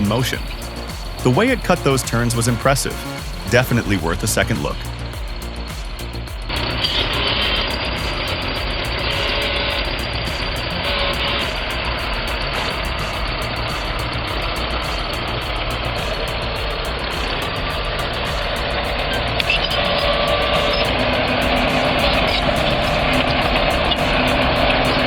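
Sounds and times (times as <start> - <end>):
heavy machine engine running: 0.0 - 25.0.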